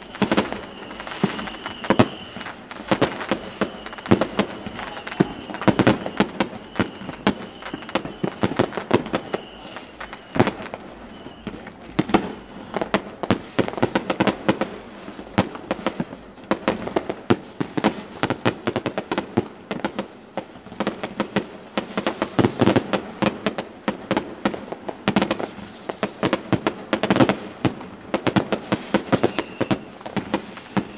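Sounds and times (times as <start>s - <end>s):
fireworks cracks and bangs: 0.0s - 30.9s.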